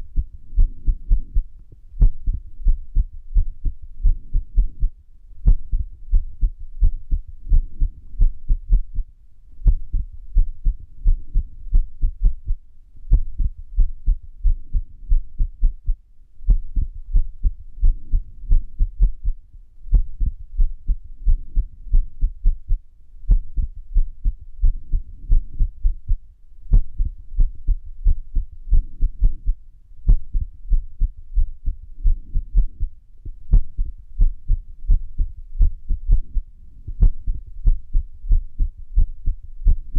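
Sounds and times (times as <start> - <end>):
irregular heartbeat thumps: 0.0 - 39.9.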